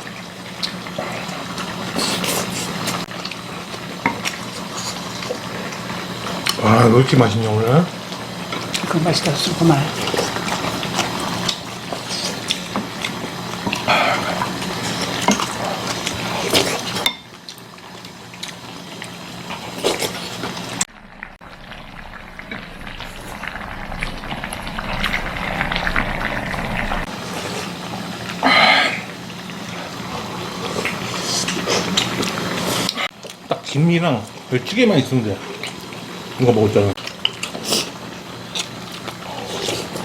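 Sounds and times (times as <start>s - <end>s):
stew bubbling in a pot: 0.0s - 40.0s.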